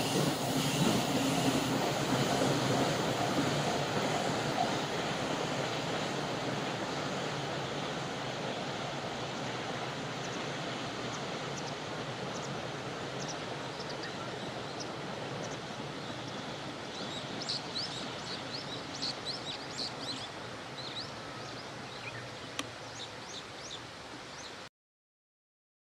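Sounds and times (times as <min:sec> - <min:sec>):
distant freight train rumble: 0:00.0 - 0:23.3.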